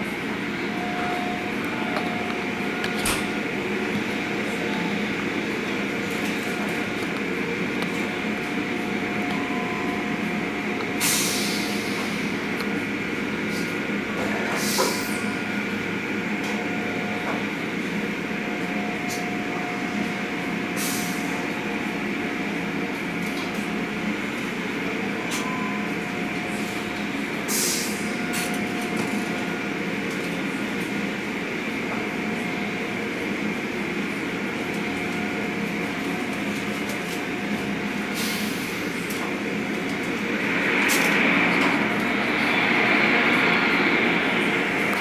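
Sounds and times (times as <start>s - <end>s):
machinery hum: 0.0s - 45.0s.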